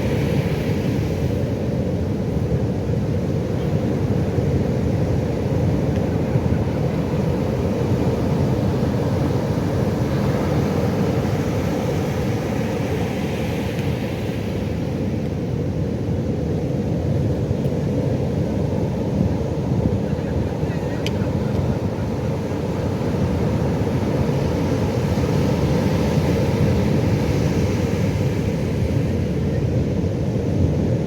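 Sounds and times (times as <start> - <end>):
low rumble of waves: 0.0 - 31.0.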